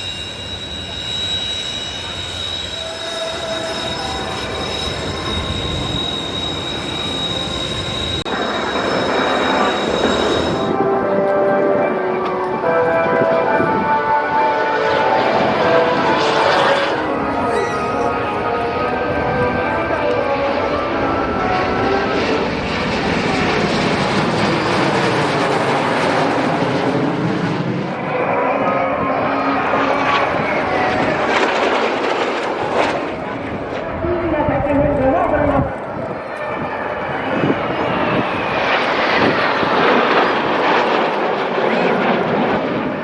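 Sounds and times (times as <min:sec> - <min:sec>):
jet engine rushing roar: 0:00.0 - 0:43.0
jet engine whine: 0:00.0 - 0:43.0.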